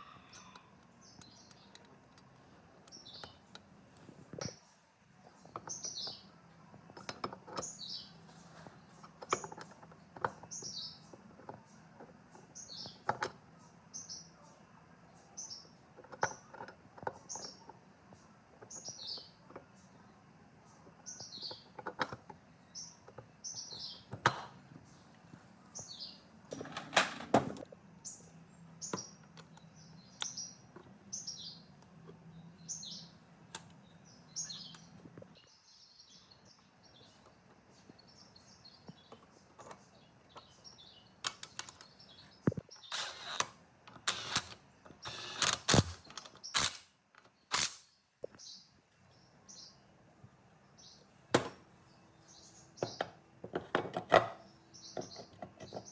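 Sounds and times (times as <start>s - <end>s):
small bird chirping: 0.0s - 26.4s, 28.0s - 43.5s, 44.1s - 50.0s.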